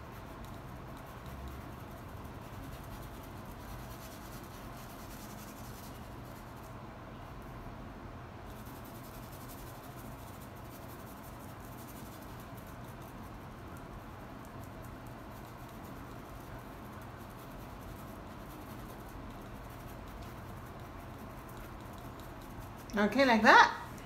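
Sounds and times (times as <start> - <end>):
paintbrush brushing on canvas: 0.0 - 6.8, 8.5 - 23.6
steady low hum: 0.0 - 24.0.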